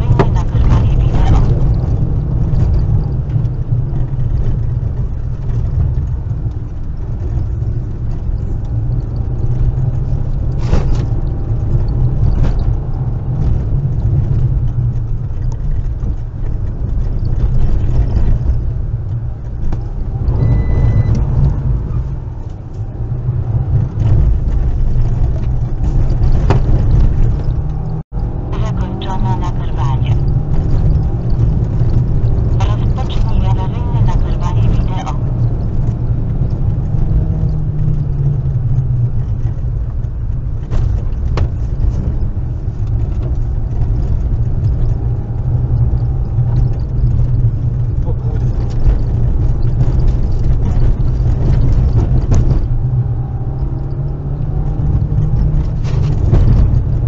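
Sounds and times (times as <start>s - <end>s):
car engine and tyres on gravel: 0.0s - 57.0s.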